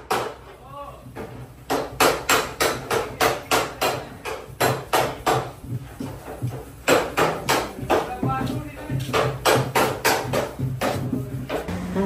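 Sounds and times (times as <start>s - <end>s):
hammer blows on sheet metal: 0.0s - 11.8s.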